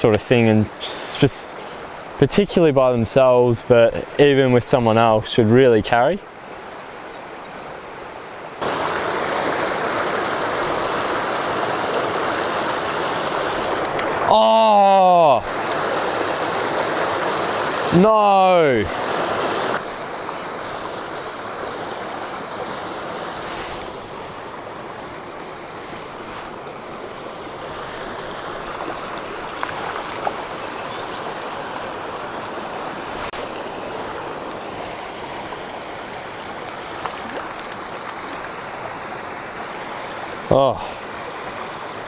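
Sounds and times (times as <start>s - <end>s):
stream water rushing: 0.0s - 42.0s.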